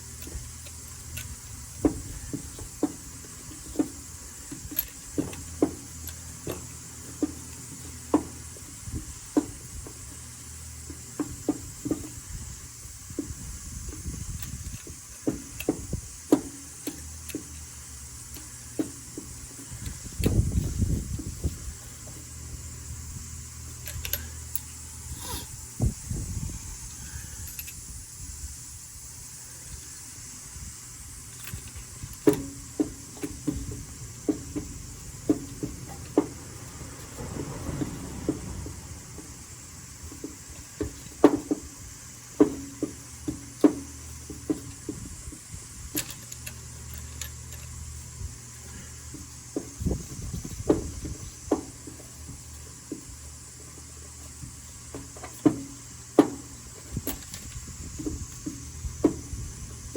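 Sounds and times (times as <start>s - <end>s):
hand tools clicking and knocking: 0.0s - 12.3s, 13.1s - 22.4s, 23.6s - 25.6s, 31.2s - 59.9s.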